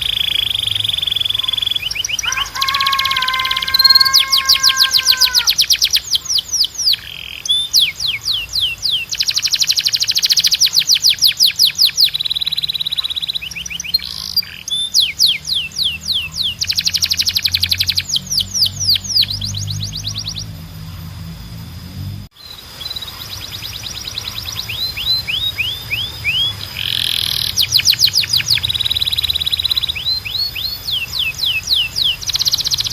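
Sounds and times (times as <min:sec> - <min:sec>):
canary singing: 0:00.0 - 0:21.7, 0:22.4 - 0:32.9.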